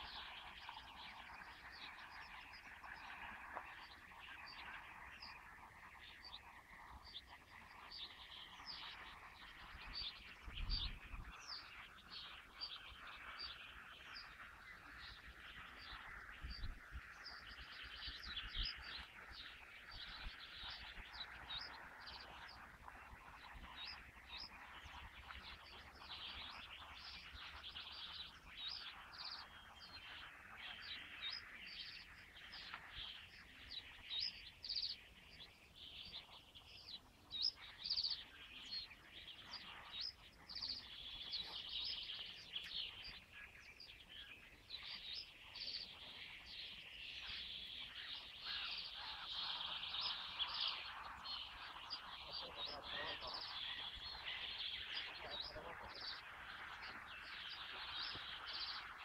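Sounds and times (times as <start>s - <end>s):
chorus of songbirds chirping: 0.0s - 59.0s.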